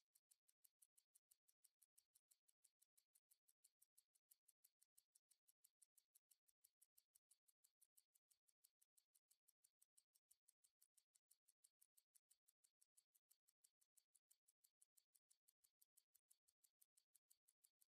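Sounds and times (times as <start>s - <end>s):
faint rapid ticking: 0.0s - 17.9s.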